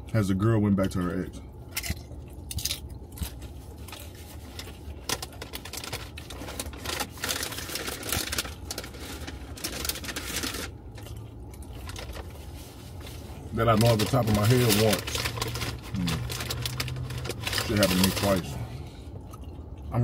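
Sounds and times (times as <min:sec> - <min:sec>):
low steady hum: 0:00.0 - 0:20.0
crisp chewing and crunching: 0:01.6 - 0:20.0.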